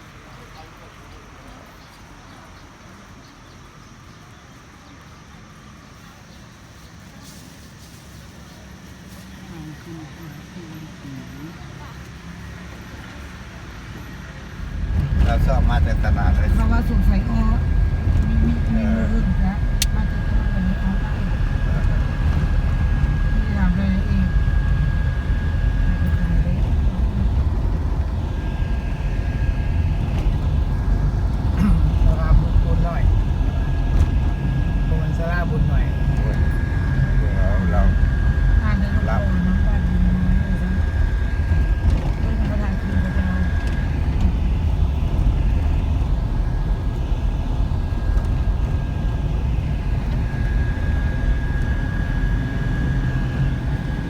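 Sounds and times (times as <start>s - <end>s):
faint steady whine: 0.0s - 54.0s
vehicle rumble: 0.0s - 54.0s.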